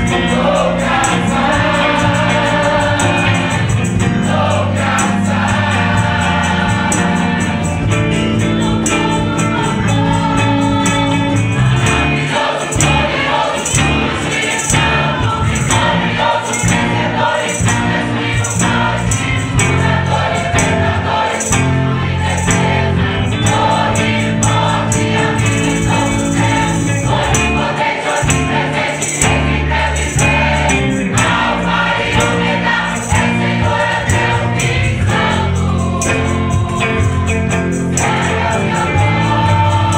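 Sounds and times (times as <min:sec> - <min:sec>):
choir singing gospel: 0:00.0 - 0:39.9
instrumental accompaniment with bass: 0:00.0 - 0:39.9
percussion beat: 0:00.0 - 0:39.9.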